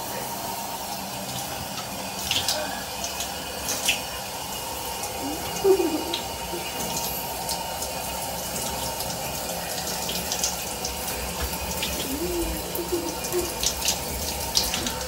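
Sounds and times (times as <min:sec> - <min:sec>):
shower spray running: 0:00.0 - 0:15.0.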